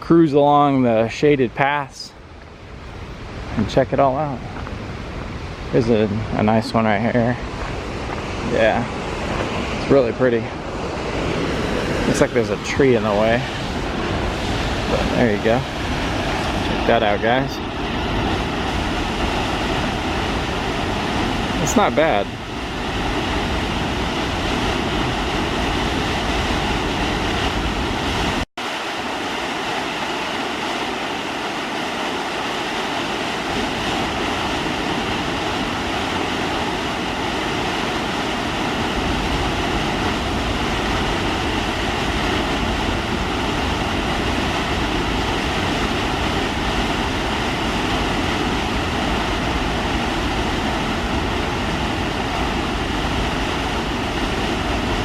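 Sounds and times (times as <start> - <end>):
waterfall roaring: 0.6 - 55.0.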